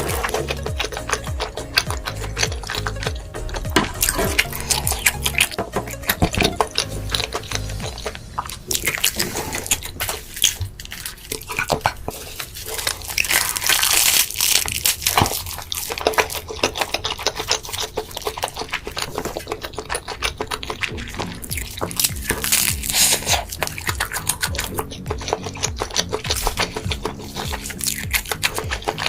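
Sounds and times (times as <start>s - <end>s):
chewing crispy food: 0.0s - 29.0s.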